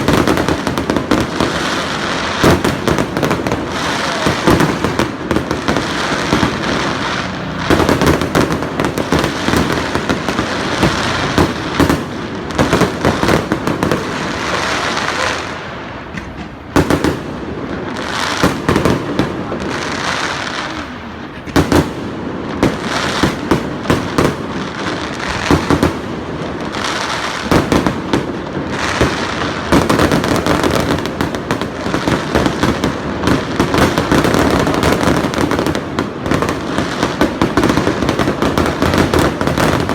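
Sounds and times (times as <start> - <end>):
firework bursts and bangs: 0.0 - 39.9
fireworks crackling: 0.0 - 39.9.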